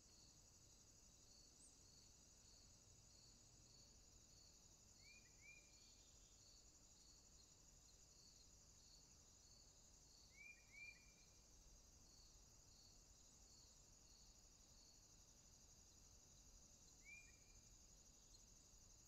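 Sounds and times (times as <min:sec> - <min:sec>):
insects buzzing and chirping: 0:00.0 - 0:19.0.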